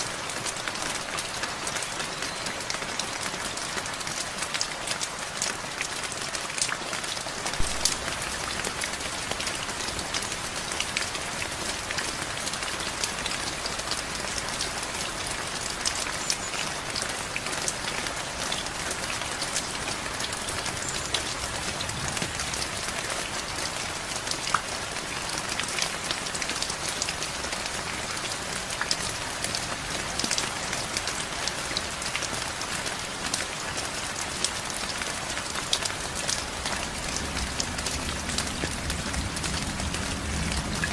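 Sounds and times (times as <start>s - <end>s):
steady rain hissing: 0.0s - 40.9s.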